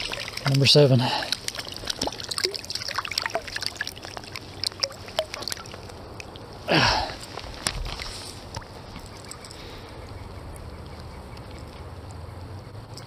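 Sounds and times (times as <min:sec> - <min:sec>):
water trickling and dripping: 0:00.0 - 0:13.0.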